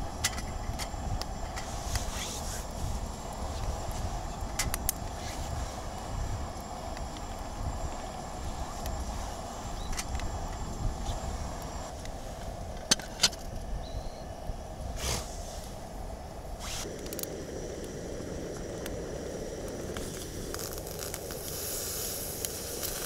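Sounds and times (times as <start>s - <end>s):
oysters crackling and hissing: 0.0s - 23.0s.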